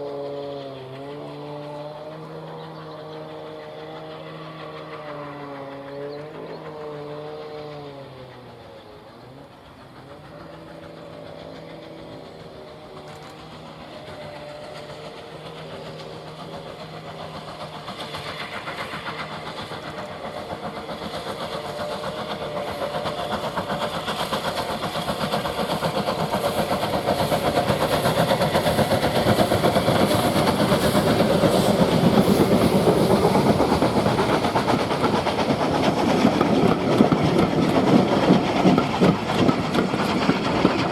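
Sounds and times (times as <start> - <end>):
steam locomotive exhaust beats: 0.0 - 40.9.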